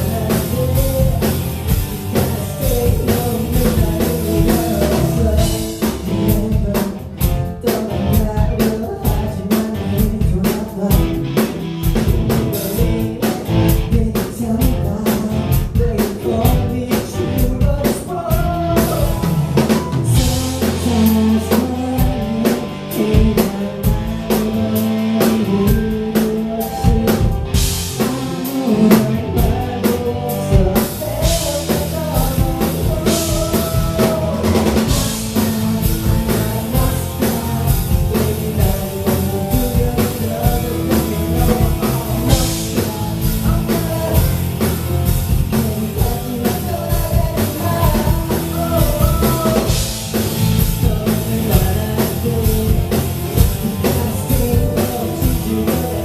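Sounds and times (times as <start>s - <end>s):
live rock band over pa: 0.0s - 56.0s
person singing: 0.0s - 56.0s.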